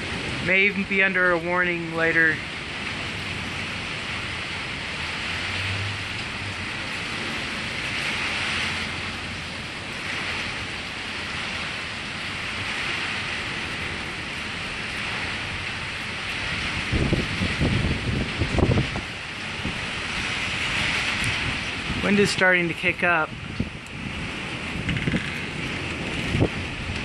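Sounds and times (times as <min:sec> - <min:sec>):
rain on a roof: 0:00.0 - 0:27.0.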